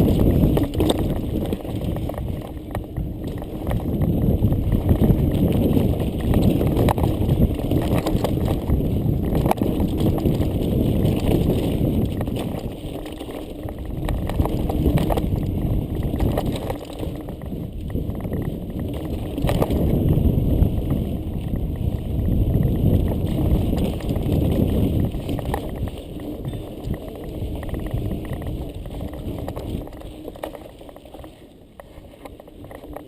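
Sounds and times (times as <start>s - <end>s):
bike wheels rattling over rocks: 0.0s - 33.0s
wheels knocking on rocks: 0.0s - 33.0s.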